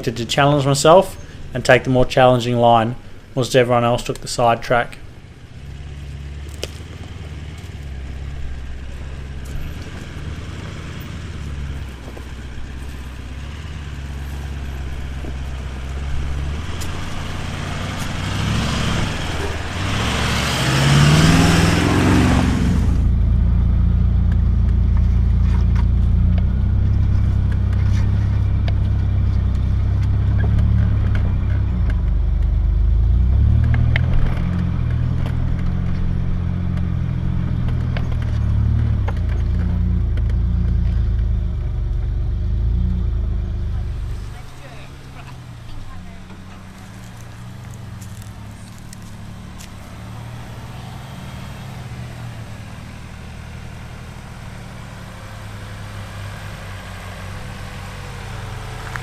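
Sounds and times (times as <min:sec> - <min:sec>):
diesel engine labouring: 0:00.0 - 0:59.0.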